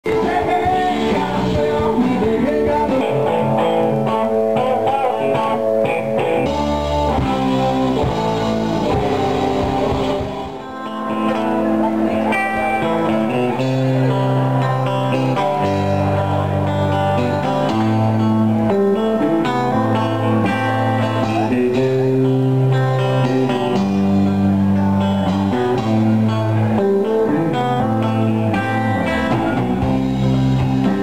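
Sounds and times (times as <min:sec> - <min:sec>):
guitar-led rock music: 0:00.0 - 0:31.0.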